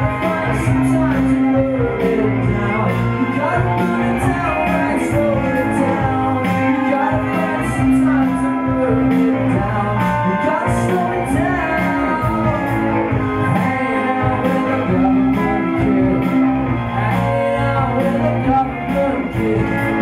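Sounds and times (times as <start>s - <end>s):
electric guitar rock music: 0.0s - 20.0s
person singing: 0.0s - 20.0s.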